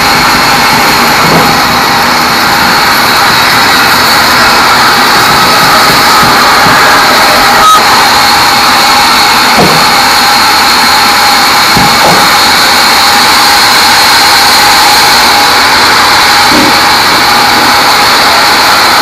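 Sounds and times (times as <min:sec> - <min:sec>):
band saw blade whining through log: 0:00.0 - 0:19.0.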